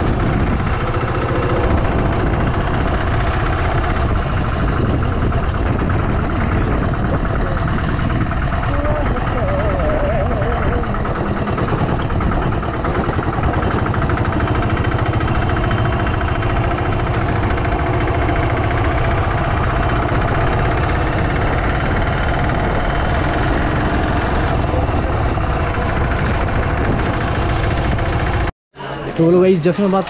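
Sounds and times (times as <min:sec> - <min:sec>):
auto-rickshaw engine running: 0:00.0 - 0:30.0
road noise: 0:00.0 - 0:30.0.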